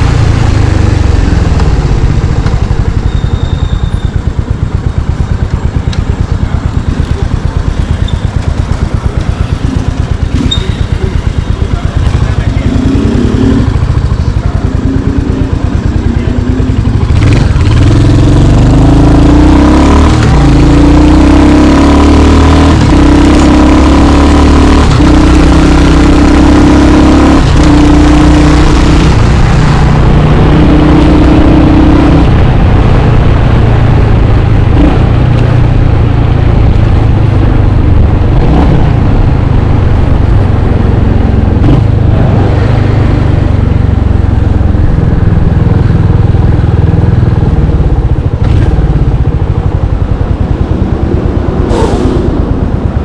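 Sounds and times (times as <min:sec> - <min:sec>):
motorcycle engine shifting gears: 0:00.0 - 0:53.0.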